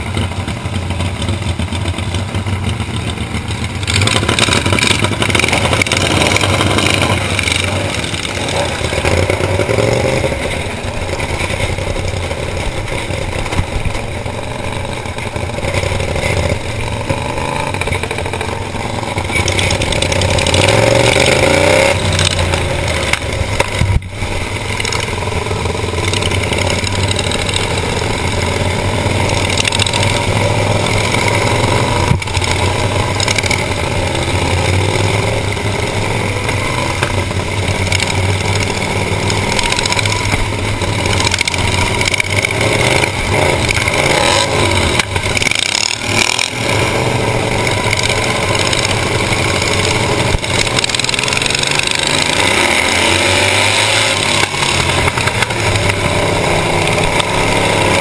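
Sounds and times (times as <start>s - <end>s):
lawn mower engine running hard: 0.0s - 58.0s.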